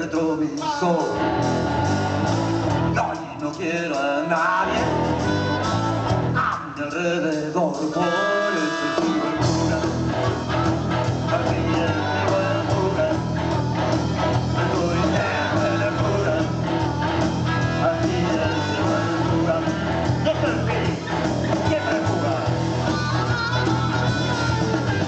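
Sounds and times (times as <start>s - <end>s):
blues-rock band playing: 0.0s - 25.0s.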